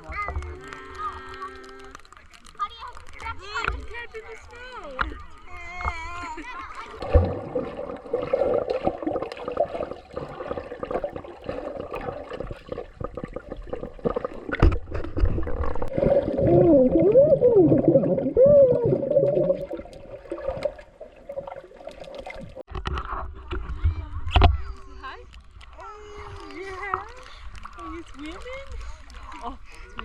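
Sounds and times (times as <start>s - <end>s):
pool water sloshing and gurgling: 0.0s - 30.0s.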